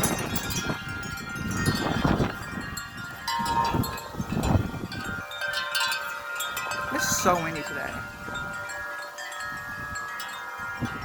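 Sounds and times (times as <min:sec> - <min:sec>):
wind chimes ringing: 0:00.0 - 0:11.0
wind rumbling on microphone: 0:00.0 - 0:11.0.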